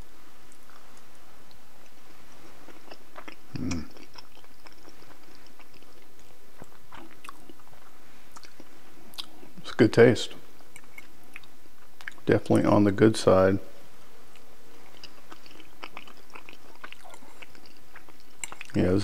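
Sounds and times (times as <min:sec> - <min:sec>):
person chewing: 0:00.5 - 0:09.6, 0:10.6 - 0:12.2, 0:14.3 - 0:18.9.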